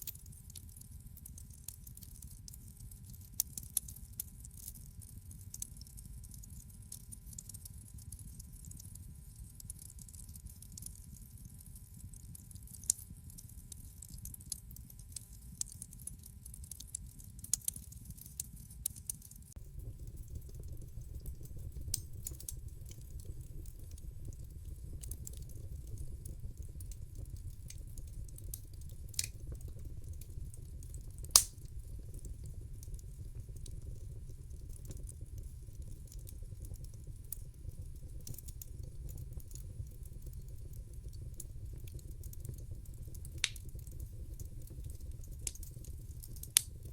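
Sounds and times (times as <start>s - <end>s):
low rumble of burning: 0.0s - 46.9s
wood fire crackling: 0.0s - 46.9s.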